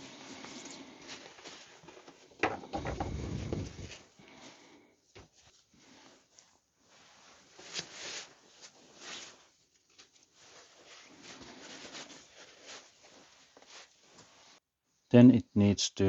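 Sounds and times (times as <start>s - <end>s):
fabric rustling and rubbing: 0.0s - 4.2s, 5.3s - 15.0s.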